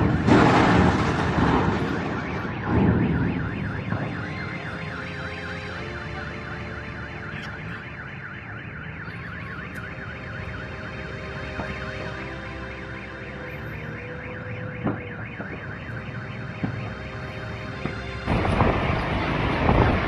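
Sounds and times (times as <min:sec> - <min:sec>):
car alarm sweeping: 0:00.0 - 0:20.0.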